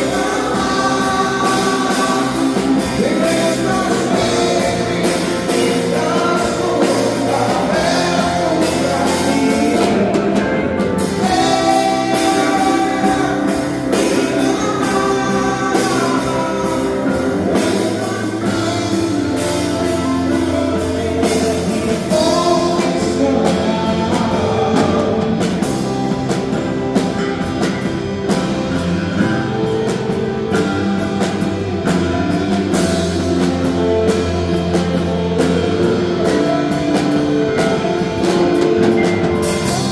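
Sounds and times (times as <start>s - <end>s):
live band playing worship song: 0.0s - 39.9s.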